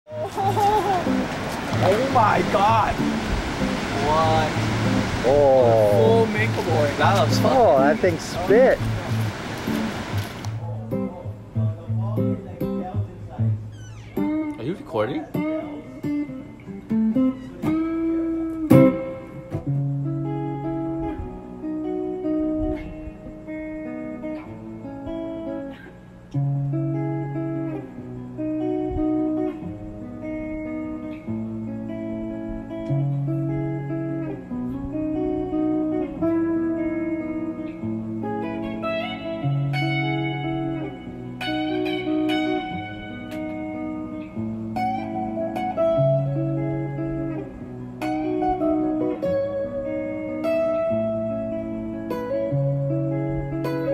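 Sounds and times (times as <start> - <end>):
plucked guitar notes: 0.1 - 53.9.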